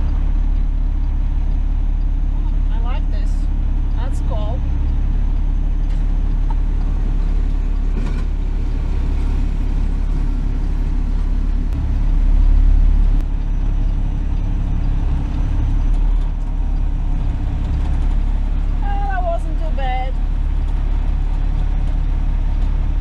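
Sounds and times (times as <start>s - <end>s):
truck diesel engine droning: 0.0s - 23.0s.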